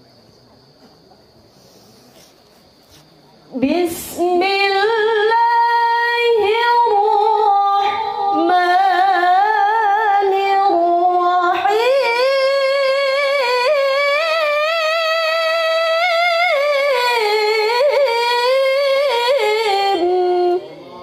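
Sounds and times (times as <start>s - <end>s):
woman chanting melodically: 3.5s - 21.0s.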